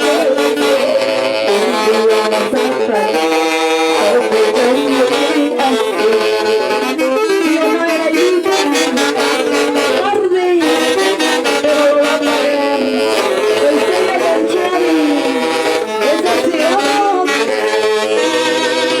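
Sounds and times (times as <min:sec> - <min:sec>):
orchestra with saxophone melody: 0:00.0 - 0:19.0.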